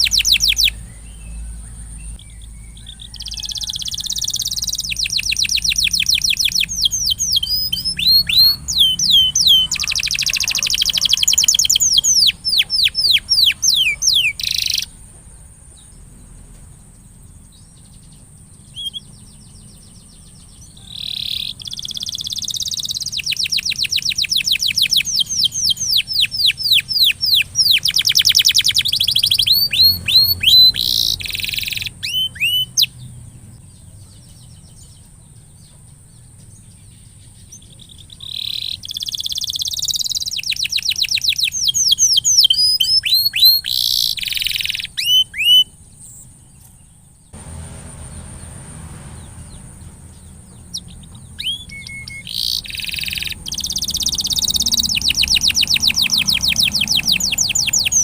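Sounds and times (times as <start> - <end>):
canary singing trilled rolls: 0.0 - 58.0.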